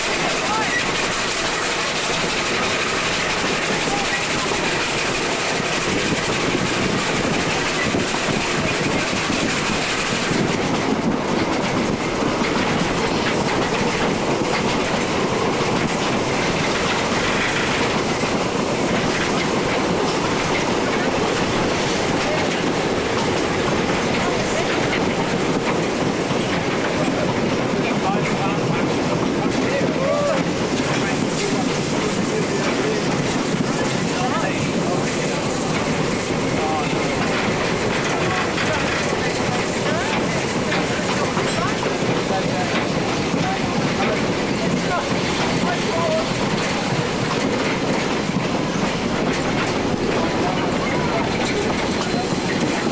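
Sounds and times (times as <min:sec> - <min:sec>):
wagon wheels running on rails: 0:00.0 - 0:52.9.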